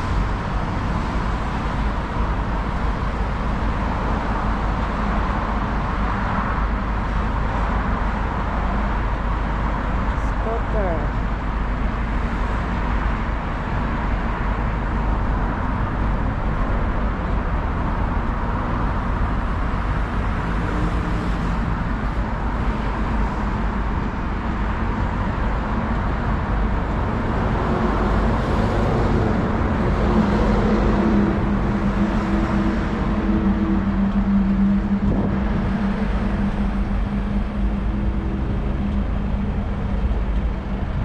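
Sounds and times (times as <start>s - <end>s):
road traffic rumble: 0.0s - 41.0s
vehicle engine low hum: 0.0s - 41.0s.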